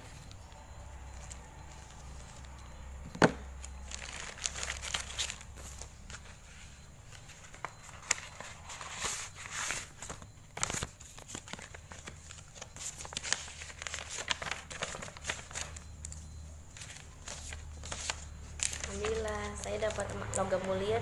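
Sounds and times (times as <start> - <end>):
plastic and paper packaging crinkling: 3.6 - 16.2, 16.8 - 21.0.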